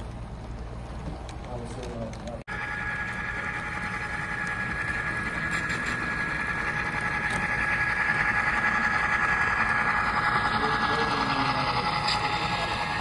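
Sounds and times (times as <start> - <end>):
model train hum and whine: 0.0 - 13.0.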